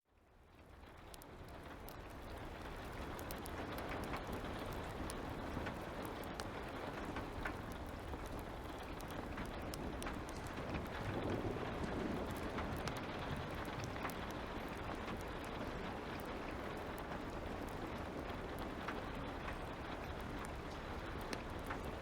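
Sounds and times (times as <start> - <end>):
light rain falling: 0.1 - 22.0
fire popping and crackling: 0.2 - 22.0.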